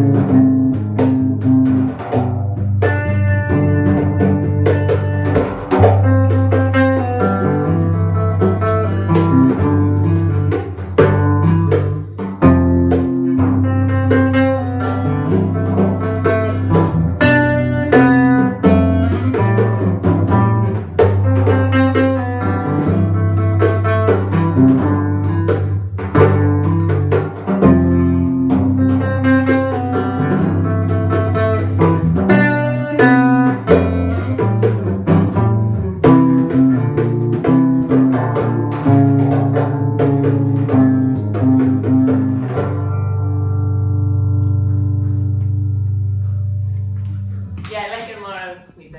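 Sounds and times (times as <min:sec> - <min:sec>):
bowed and plucked strings: 0:00.0 - 0:47.6
bass line: 0:00.0 - 0:48.4
drum kit: 0:00.0 - 0:48.9
guitar: 0:00.0 - 0:48.9.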